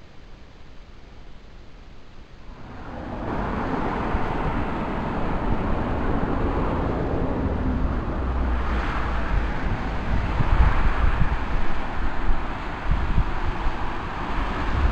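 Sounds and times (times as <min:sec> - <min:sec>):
wind rumbling on microphone: 0:02.4 - 0:14.9
cars passing: 0:02.5 - 0:14.9.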